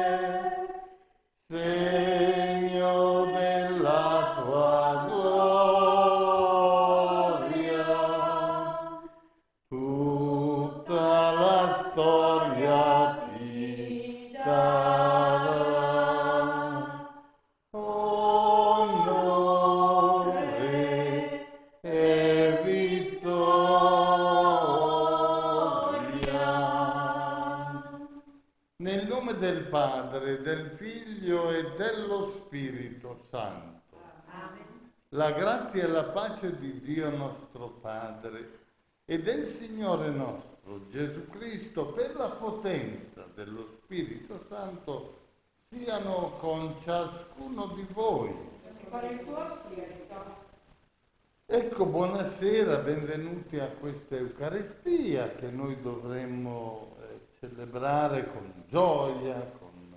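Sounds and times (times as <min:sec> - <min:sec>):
person singing liturgical chant: 0:00.0 - 0:17.2, 0:17.8 - 0:28.2, 0:28.8 - 0:33.7, 0:35.2 - 0:38.5, 0:39.1 - 0:50.4, 0:51.5 - 0:59.9.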